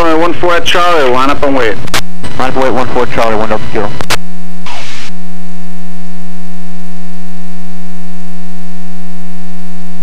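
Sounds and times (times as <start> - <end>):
loud buzzy electrical hum: 0.0 - 10.0.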